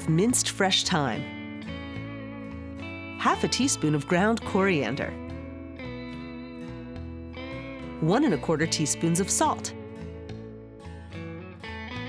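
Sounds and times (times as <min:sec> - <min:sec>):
guitar chords: 0:00.0 - 0:12.0.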